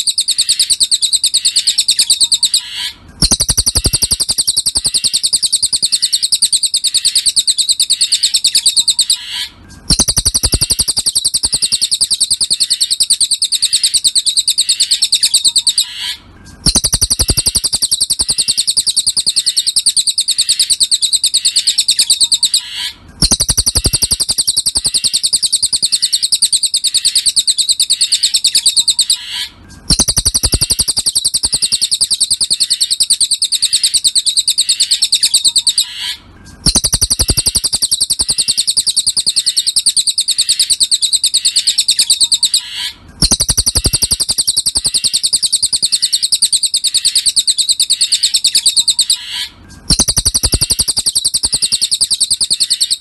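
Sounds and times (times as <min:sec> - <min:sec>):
songbird high-pitched trill: 0:00.0 - 0:53.0.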